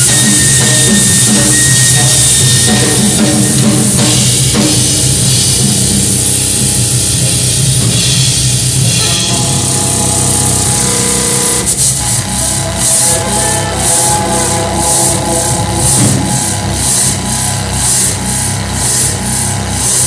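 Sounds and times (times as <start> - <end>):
drum kit played hard: 0.0 - 20.0
electronic noise: 0.0 - 20.0
steady high tone: 0.0 - 20.0.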